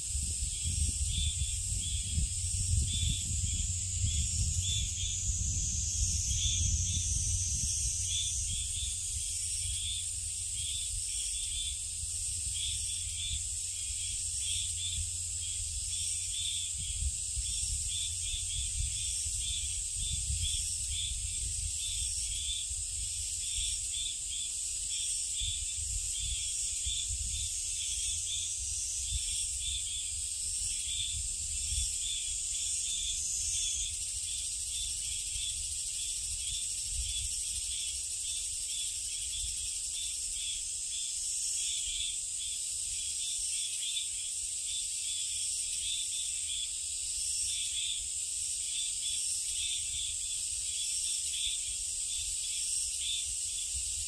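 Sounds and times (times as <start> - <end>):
insects buzzing: 0.0 - 54.0
insects pulsing chirp: 0.0 - 54.0.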